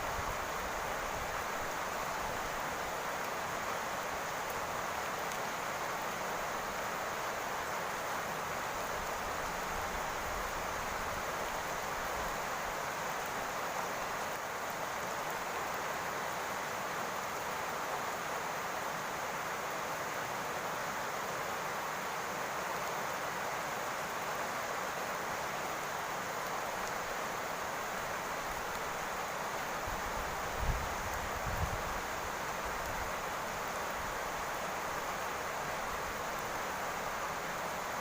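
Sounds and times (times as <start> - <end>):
rain falling on a roof: 0.0 - 38.0.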